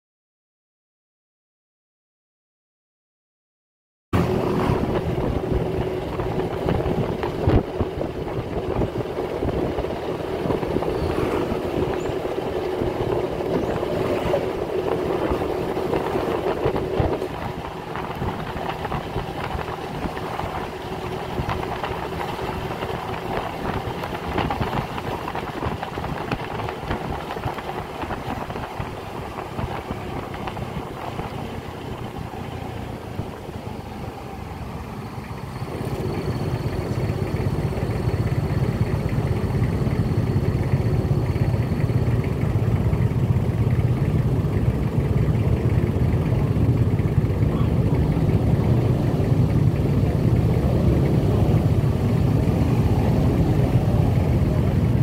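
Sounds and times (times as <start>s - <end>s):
motor scooter engine running: 4.2s - 55.0s
road and wind noise: 4.2s - 55.0s
steady whine: 4.2s - 55.0s.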